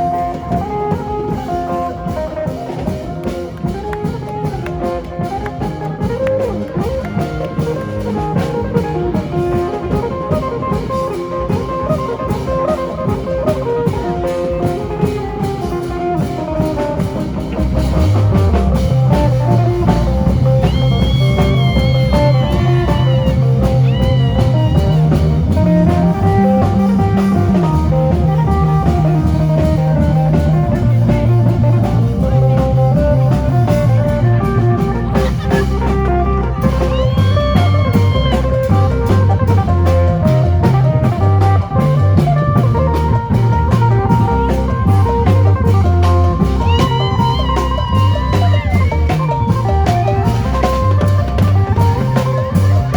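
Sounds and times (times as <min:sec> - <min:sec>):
drum kit beat: 0:00.0 - 0:52.9
electric lute fast melody: 0:00.0 - 0:52.9
heavy bass line: 0:00.0 - 0:52.9.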